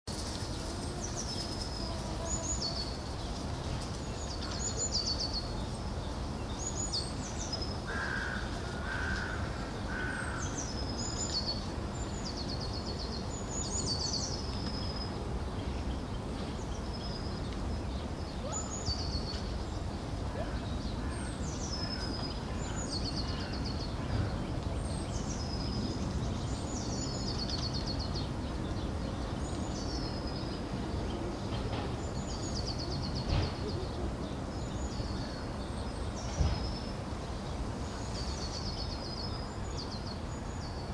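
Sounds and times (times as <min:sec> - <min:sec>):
songbirds singing with trill: 0:00.1 - 0:40.9.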